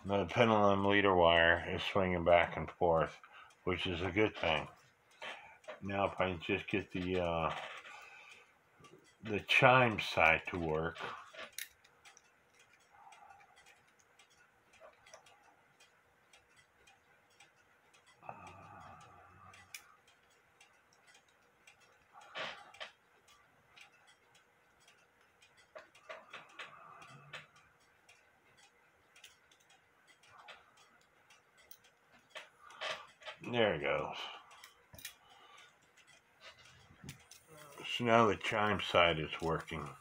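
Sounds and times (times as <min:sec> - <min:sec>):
clock movement ticking: 0:00.0 - 0:40.0.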